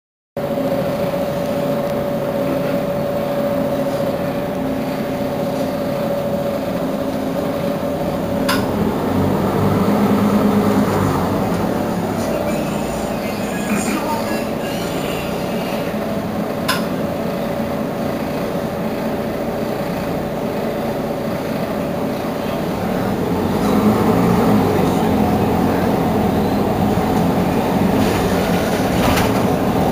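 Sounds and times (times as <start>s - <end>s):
bus diesel engine idling: 0.4s - 29.9s.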